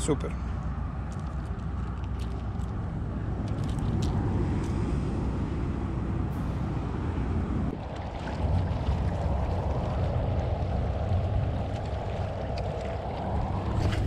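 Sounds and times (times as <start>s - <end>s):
wind buffeting microphone: 0.7s - 14.0s.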